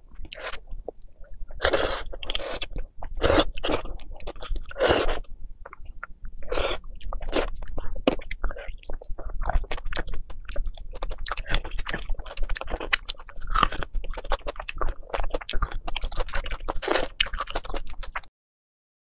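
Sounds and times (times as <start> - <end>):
person chewing and biting: 0.2 - 18.3.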